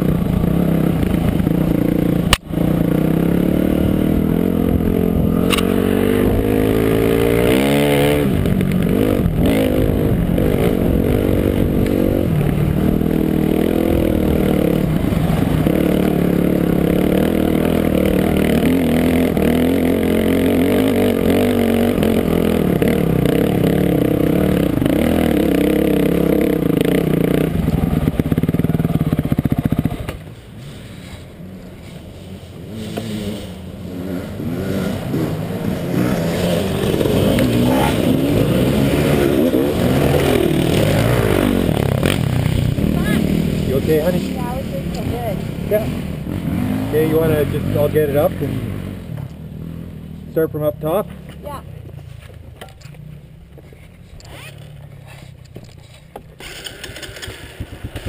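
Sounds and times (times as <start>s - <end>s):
dirt bike engine revving: 0.0s - 51.6s, 56.4s - 58.0s.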